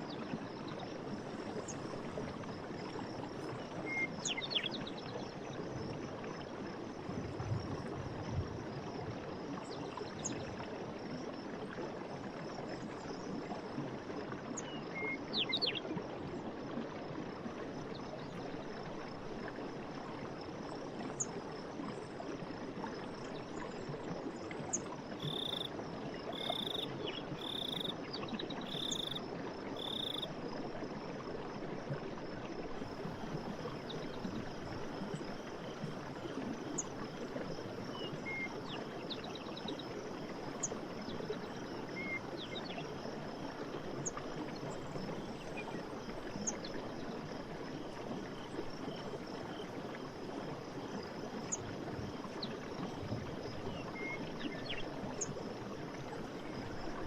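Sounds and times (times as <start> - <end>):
stream water rushing: 0.0 - 7.0, 13.6 - 57.0.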